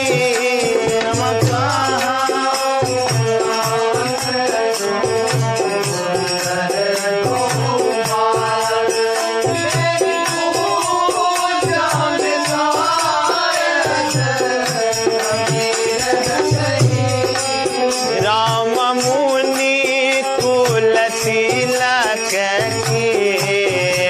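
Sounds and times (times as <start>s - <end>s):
devotional instrumental music: 0.0s - 24.0s.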